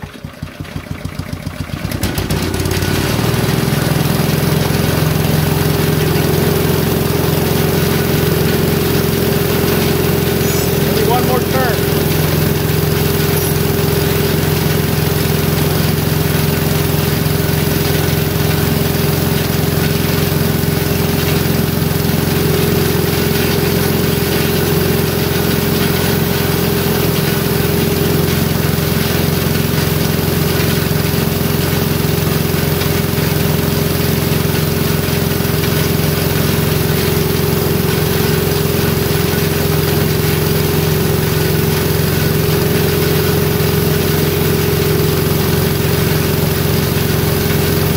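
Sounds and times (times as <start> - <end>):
air compressor running: 0.0 - 47.9.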